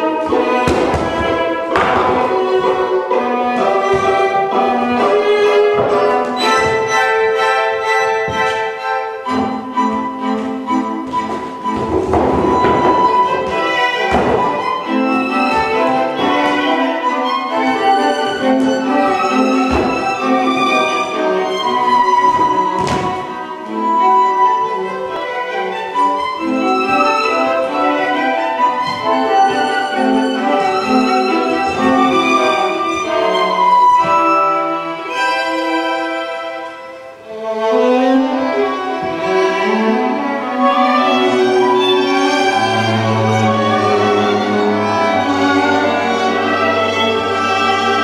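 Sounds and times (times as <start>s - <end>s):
bowed strings: 0.0s - 48.0s
violin melody: 0.0s - 48.0s.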